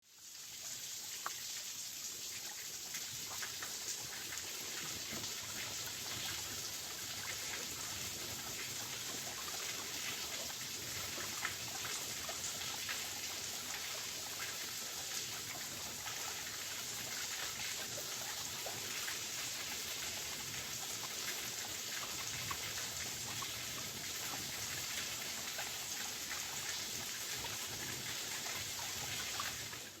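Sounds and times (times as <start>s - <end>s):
water splashes and drips: 0.0s - 30.0s.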